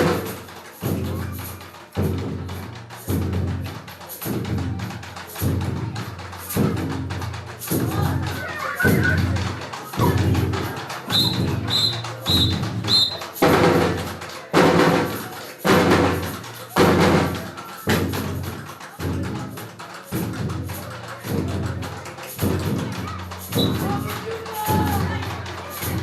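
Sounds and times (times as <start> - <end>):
heavy drum beat music: 0.0 - 26.0.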